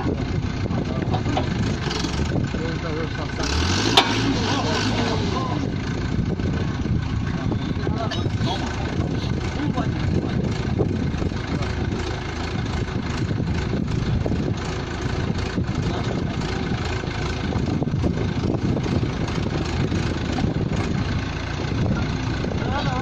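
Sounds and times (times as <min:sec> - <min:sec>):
pneumatic drilling rig rattling: 0:00.1 - 0:22.6.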